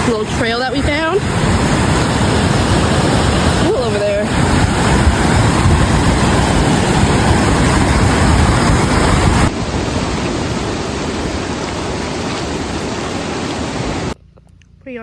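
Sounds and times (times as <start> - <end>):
river rapids roaring: 0.0 - 14.2.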